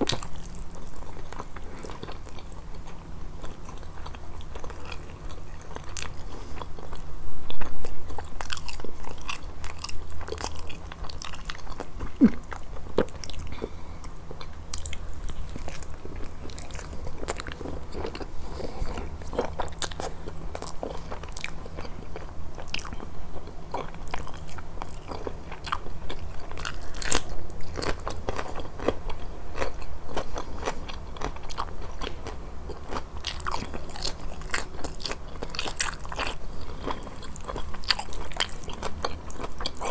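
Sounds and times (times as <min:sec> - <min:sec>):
close-miked chewing and crunching: 0:00.0 - 0:39.9.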